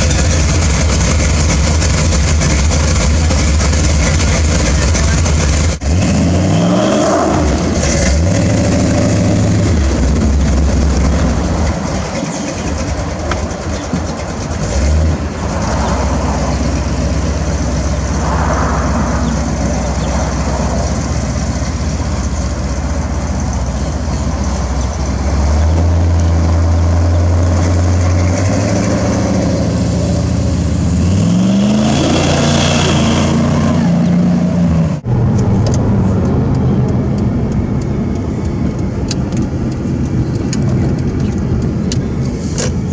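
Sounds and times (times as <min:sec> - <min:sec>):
truck engine exhaust revving: 0:00.0 - 0:42.9.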